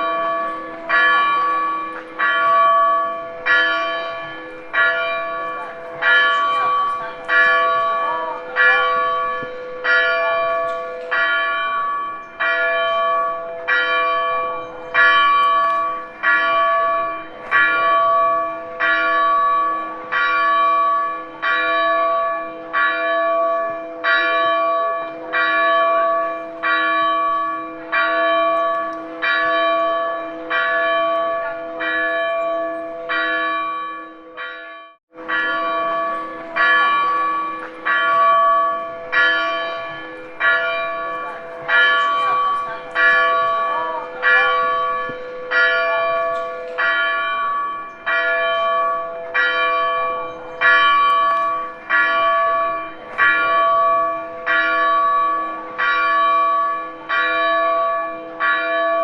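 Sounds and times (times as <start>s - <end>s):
church bell tolling: 0.0s - 59.0s.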